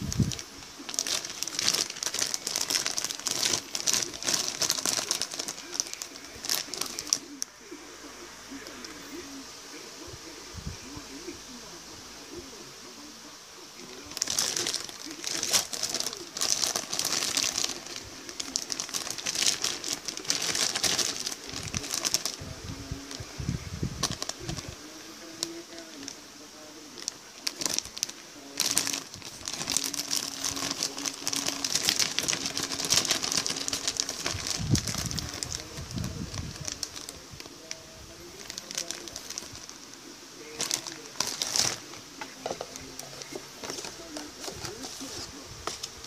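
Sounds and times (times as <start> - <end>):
plastic bags crinkling: 0.0 - 7.5, 13.8 - 23.3, 23.9 - 46.0.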